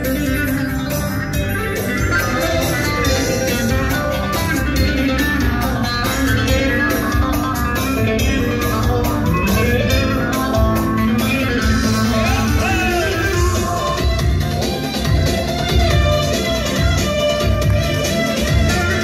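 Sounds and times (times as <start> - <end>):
live band music: 0.0 - 19.0
plucked string instrument: 0.0 - 19.0.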